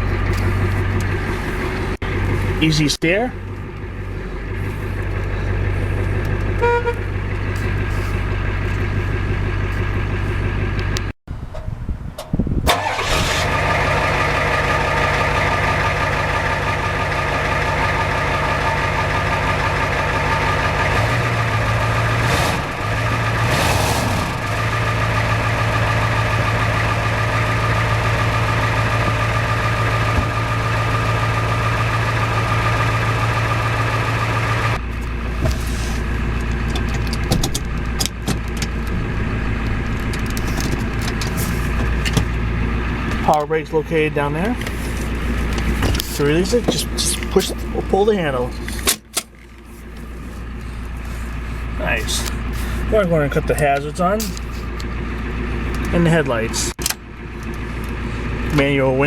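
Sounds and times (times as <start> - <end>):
diesel engine idling: 0.0 - 11.4, 12.7 - 59.0.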